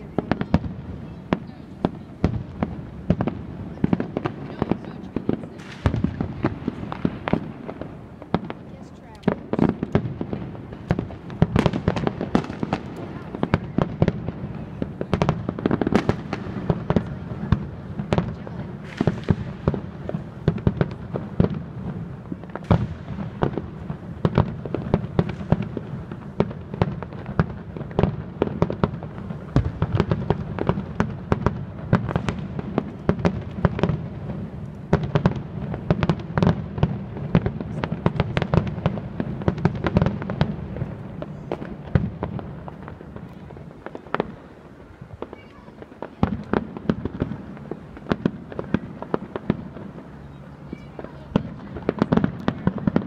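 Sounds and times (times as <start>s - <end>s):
firework shells bursting: 0.0s - 50.1s.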